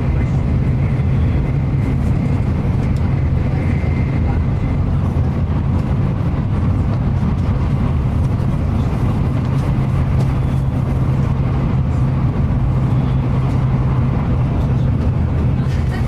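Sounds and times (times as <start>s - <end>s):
train cabin rumble and hum: 0.0s - 16.0s.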